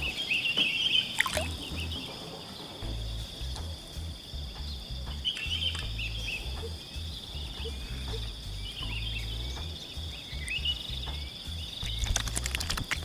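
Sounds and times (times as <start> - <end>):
bird chirps: 0.0 - 13.0
low uneven rumble: 1.3 - 12.9.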